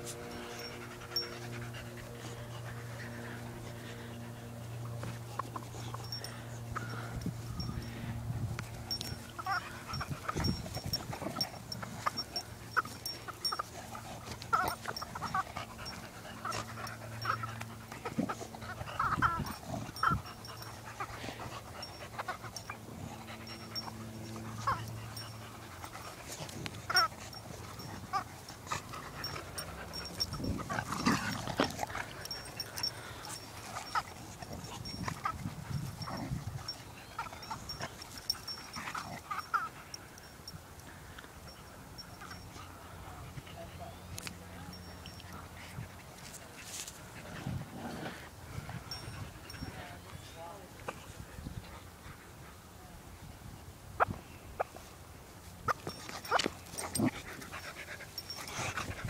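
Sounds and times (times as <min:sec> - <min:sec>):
dogs play-fighting: 0:00.0 - 0:59.0.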